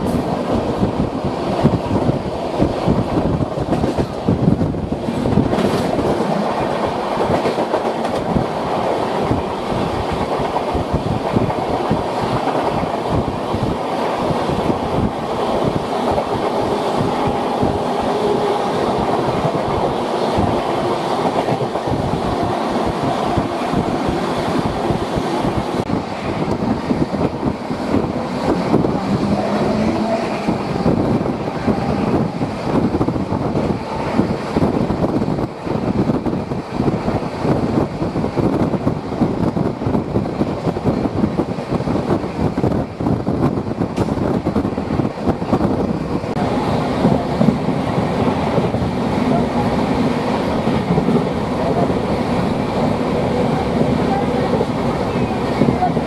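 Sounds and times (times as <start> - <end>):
clickety-clack over rail joints: 0.0 - 56.0
goods train passing: 0.0 - 56.0
train wheels rushing on rail: 0.0 - 56.0
wind rushing: 0.0 - 56.0.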